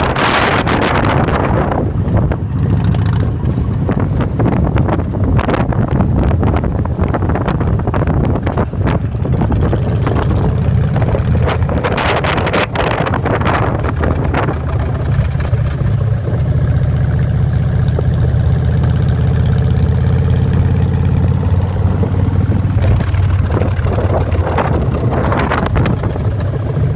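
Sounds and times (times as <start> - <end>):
wind buffeting microphone: 0.0 - 16.8, 21.2 - 26.9
motorcycle engine rumble: 0.0 - 26.9.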